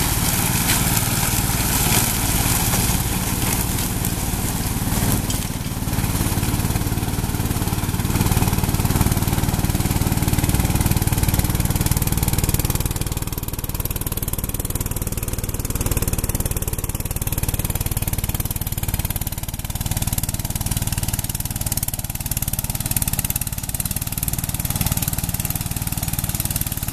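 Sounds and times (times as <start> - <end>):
lawn mower engine running: 0.0 - 26.9
mower deck shredding brush: 0.0 - 26.9.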